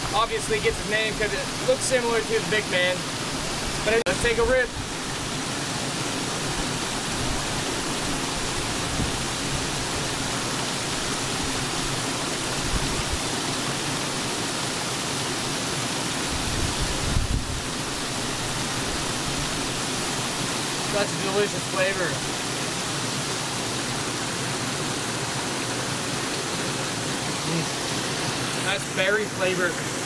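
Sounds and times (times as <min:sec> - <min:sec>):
small waterfall rushing: 0:00.0 - 0:30.0.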